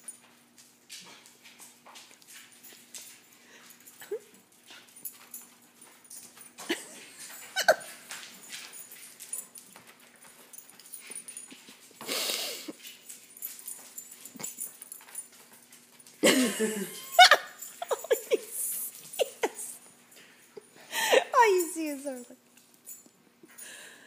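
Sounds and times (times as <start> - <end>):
dog paws scrabbling on hardwood floor: 0.0 - 16.3, 17.4 - 20.7.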